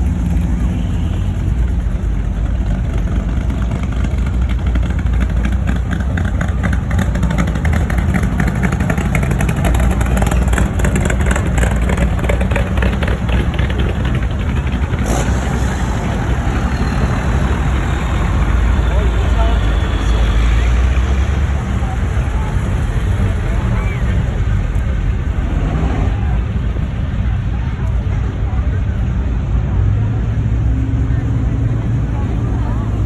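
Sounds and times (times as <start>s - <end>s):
rapid exhaust pulses: 0.0s - 29.4s
car engines and exhausts rumbling: 0.0s - 33.0s.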